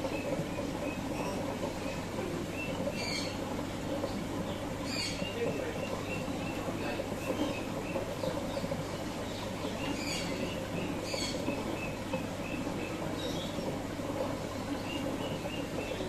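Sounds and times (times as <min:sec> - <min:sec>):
aquarium water running: 0:00.0 - 0:16.0
pump hum: 0:00.0 - 0:16.0
small birds chirping: 0:00.0 - 0:16.0.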